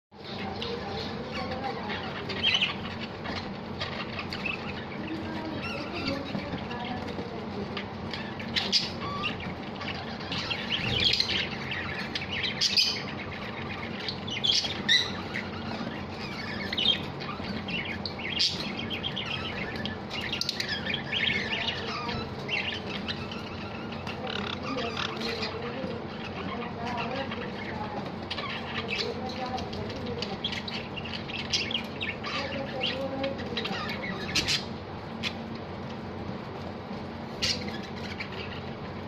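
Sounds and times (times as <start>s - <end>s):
sparrows chirping: 0.1s - 39.0s.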